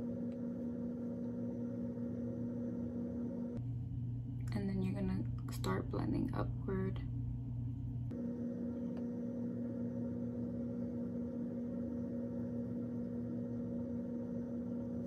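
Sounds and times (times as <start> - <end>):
low hum with held tones: 0.0 - 15.0.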